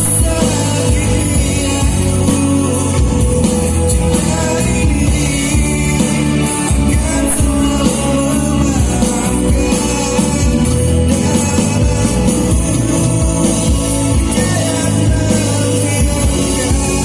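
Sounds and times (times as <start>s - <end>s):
heavy bass: 0.0s - 17.0s
song with singing over loudspeakers: 0.0s - 17.0s.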